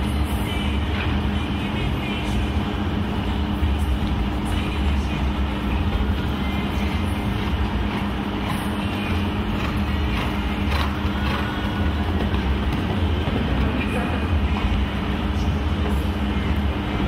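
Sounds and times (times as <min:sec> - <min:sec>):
indoor arena rumble and hum: 0:00.0 - 0:17.0.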